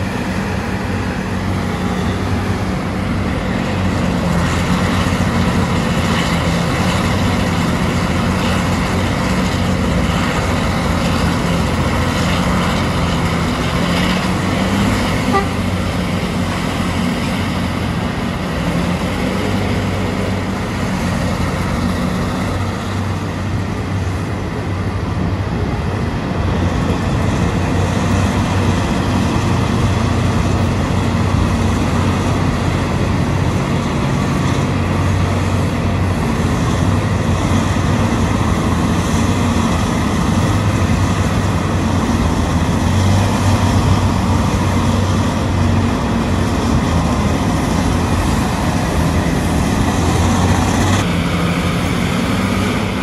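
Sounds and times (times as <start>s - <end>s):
mining shovel engines and hydraulics: 0.0s - 53.0s.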